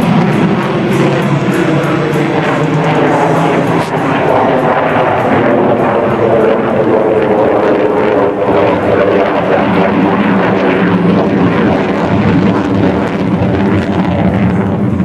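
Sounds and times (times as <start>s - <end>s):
droning hum: 0.0s - 15.0s
jet engine roar: 0.0s - 15.0s.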